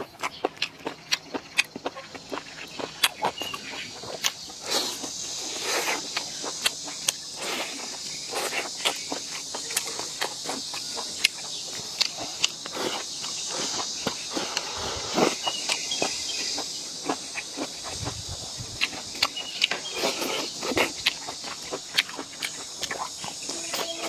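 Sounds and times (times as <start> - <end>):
person chewing wetly: 0.0 - 24.0
steady high hiss: 3.6 - 24.0.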